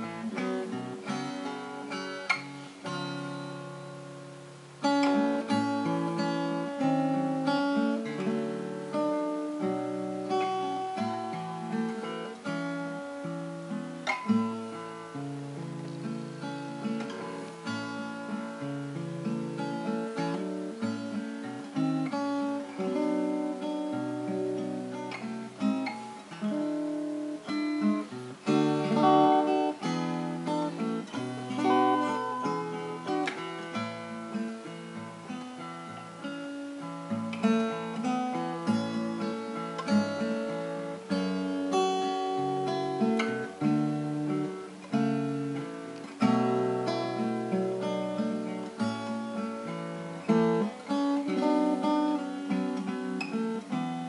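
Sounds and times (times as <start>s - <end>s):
fingerpicked acoustic guitar: 0.0s - 54.0s.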